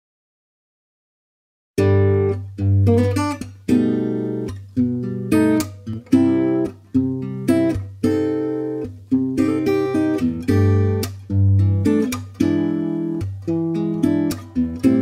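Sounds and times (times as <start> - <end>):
acoustic guitar chords: 1.8 - 15.0.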